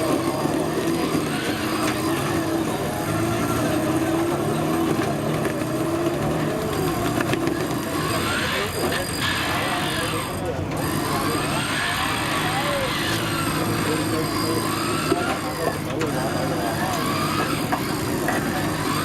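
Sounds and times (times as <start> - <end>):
vehicle engine under load: 0.0 - 19.0.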